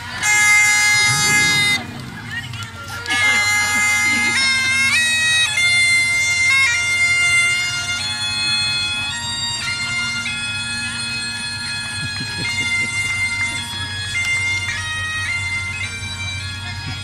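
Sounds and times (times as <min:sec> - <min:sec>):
bagpipes playing a melody: 0:00.0 - 0:17.0.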